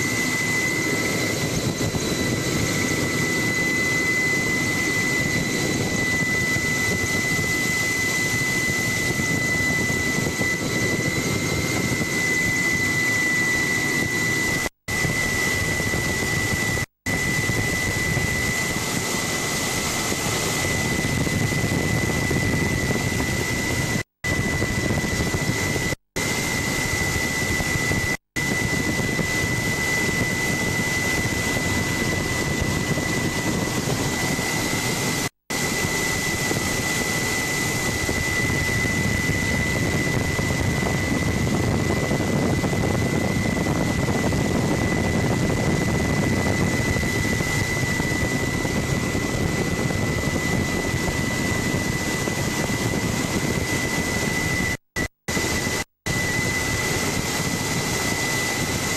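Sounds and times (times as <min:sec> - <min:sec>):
constant high whine: 0:00.0 - 0:58.9
helicopter engine and rotors drone: 0:00.0 - 0:58.9.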